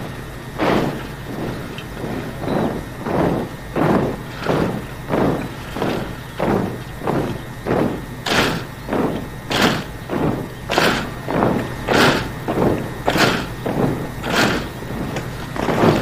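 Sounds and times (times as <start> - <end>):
boots stamping in unison: 0.0 - 16.0.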